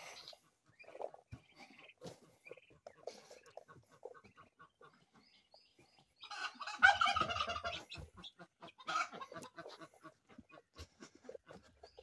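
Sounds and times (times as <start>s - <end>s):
poultry squawking: 0.0s - 12.0s.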